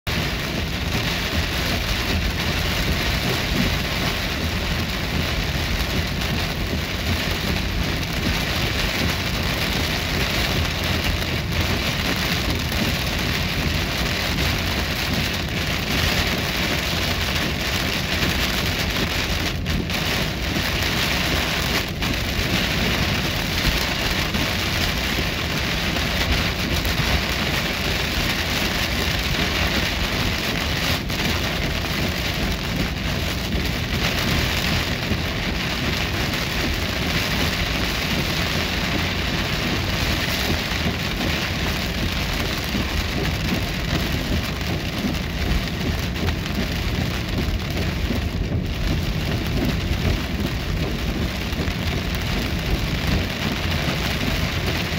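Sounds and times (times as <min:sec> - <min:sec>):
heavy rain on car windshield: 0:00.0 - 0:54.9
tyres rumbling on wet road: 0:00.0 - 0:54.9.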